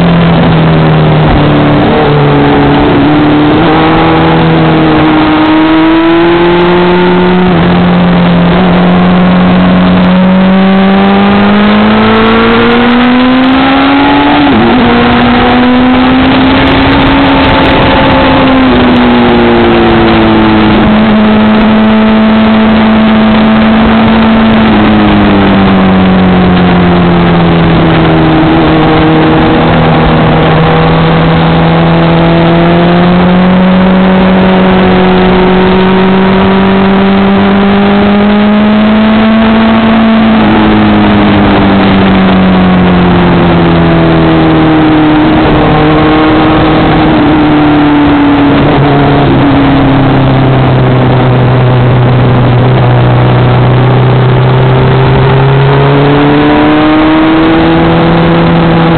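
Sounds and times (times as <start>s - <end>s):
wind rush on microphone: 0.0s - 10.5s, 12.8s - 58.9s
motorcycle engine: 0.0s - 58.9s.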